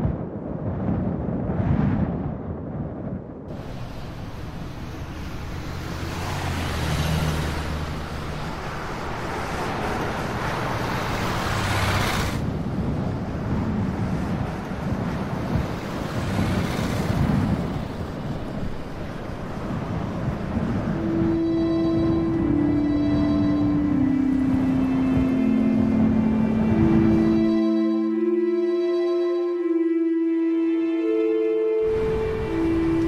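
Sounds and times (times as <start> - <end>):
rushing wind-like noise: 0.0 - 28.5, 31.8 - 33.0.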